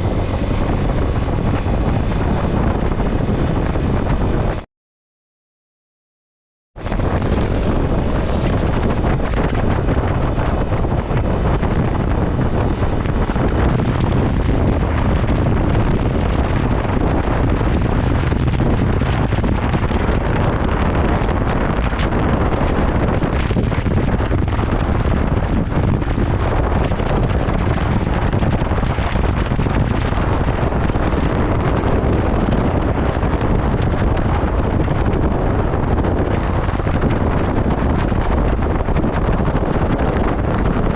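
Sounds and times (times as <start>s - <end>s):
wind rushing over microphone: 0.0s - 4.7s, 6.8s - 40.9s.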